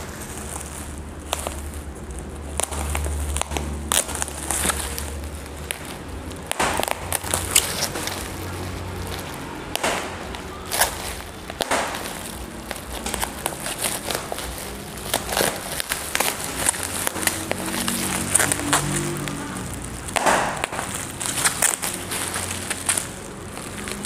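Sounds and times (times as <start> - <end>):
bubble wrap and tape crackling: 0.0 - 24.0.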